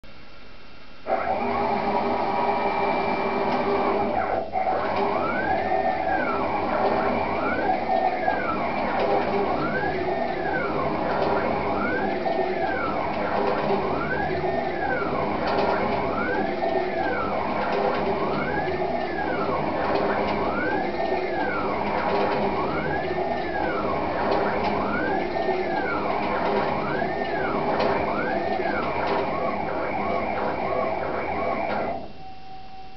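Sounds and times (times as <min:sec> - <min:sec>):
motor whine rising and falling: 0:01.1 - 0:32.2.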